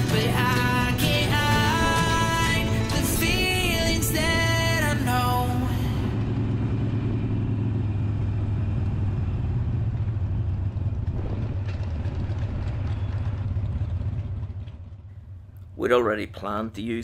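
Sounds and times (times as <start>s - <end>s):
motorcycle engine running: 0.0s - 15.8s
road and wind noise: 0.0s - 17.0s.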